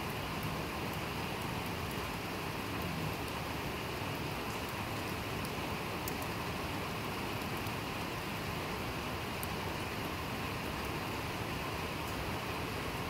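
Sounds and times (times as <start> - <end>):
faint raindrop ticks: 0.0 - 11.0, 11.9 - 13.0
steady rain on paving: 0.0 - 13.0.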